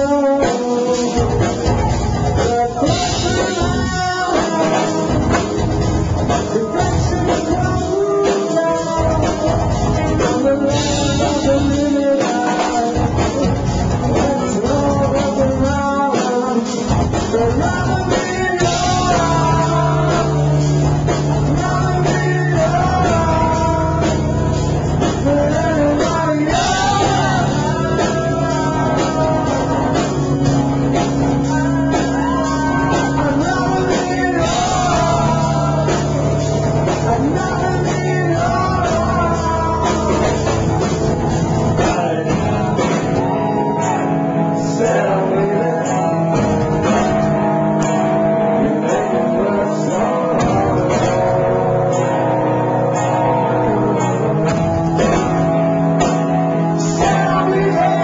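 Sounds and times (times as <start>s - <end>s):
bass line: 0.0s - 58.0s
drums: 0.0s - 58.0s
guitars: 0.0s - 58.0s
person singing: 0.0s - 58.0s.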